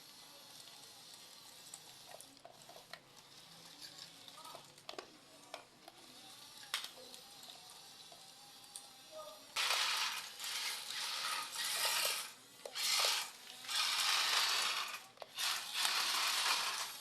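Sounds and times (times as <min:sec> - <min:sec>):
toy scraping: 0:00.0 - 0:17.0.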